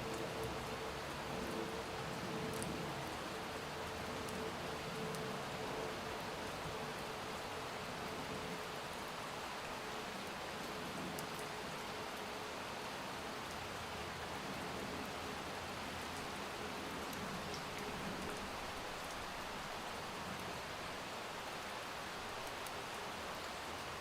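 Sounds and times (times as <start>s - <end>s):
light ticks of raindrops: 0.0s - 24.0s
steady rain hiss: 0.0s - 24.0s.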